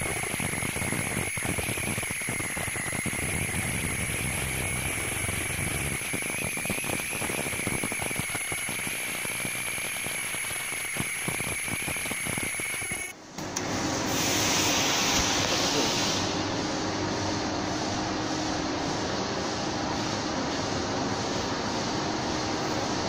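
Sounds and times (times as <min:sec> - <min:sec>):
hissy machine running noise: 0:00.0 - 0:23.0
machine high whine: 0:00.0 - 0:23.0.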